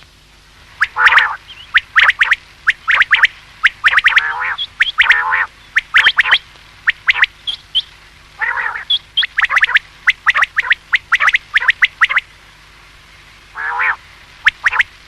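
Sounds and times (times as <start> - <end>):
low buzzy quail call: 0.8 - 12.3, 13.5 - 15.0
quail calling: 0.8 - 12.3, 13.5 - 15.0.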